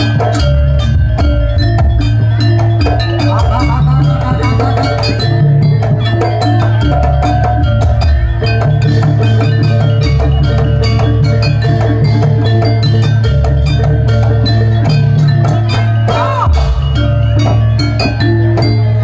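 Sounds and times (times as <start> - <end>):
heavy bass: 0.0 - 18.8
drums: 0.0 - 19.0
tuned metal percussion: 0.0 - 19.0.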